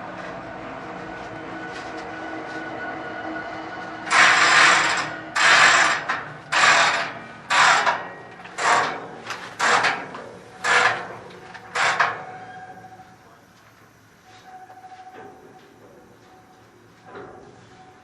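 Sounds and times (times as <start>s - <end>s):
freight train cars clattering: 0.0s - 18.0s.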